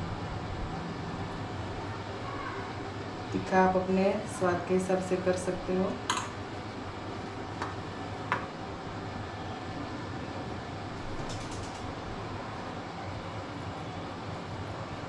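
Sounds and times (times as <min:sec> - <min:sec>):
fan-like room hum: 0:00.0 - 0:15.0.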